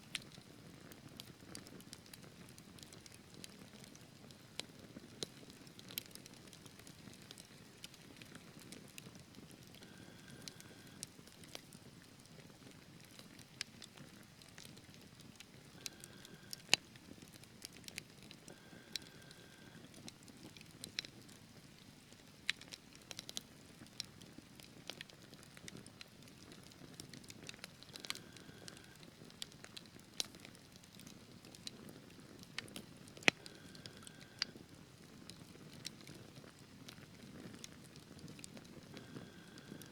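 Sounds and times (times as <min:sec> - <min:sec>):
logs crackling and popping: 0:00.0 - 0:39.9
rumble of flames: 0:00.1 - 0:39.9.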